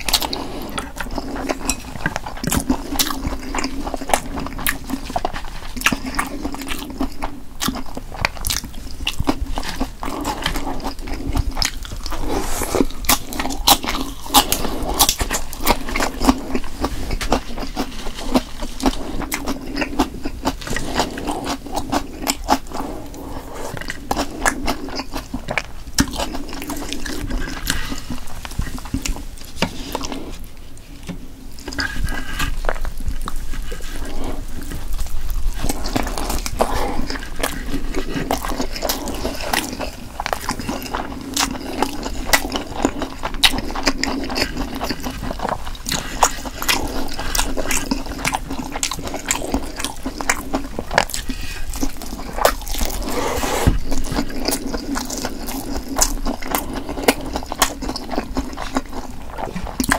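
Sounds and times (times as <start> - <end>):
close chewing and mouth sounds: 0.0 - 59.9.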